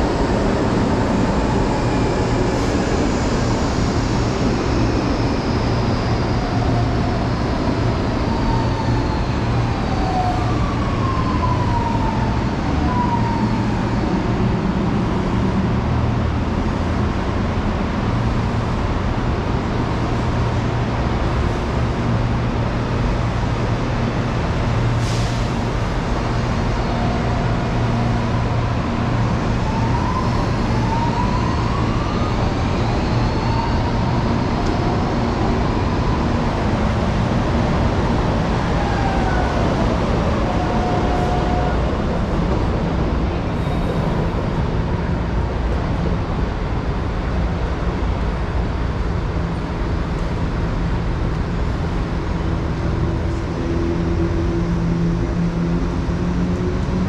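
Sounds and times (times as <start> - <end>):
rumble of trains and traffic: 0.0 - 57.0.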